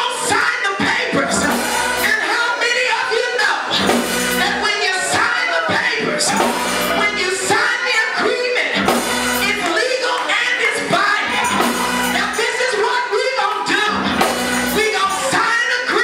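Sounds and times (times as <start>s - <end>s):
organ: 0.0s - 16.0s
drum kit: 0.2s - 2.4s, 3.6s - 7.9s, 8.7s - 16.0s.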